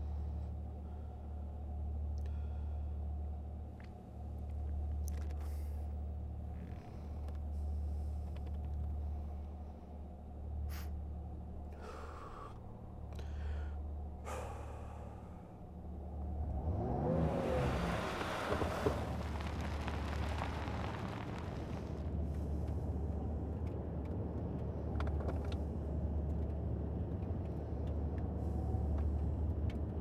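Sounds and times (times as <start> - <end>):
car interior drone: 0.0 - 30.0.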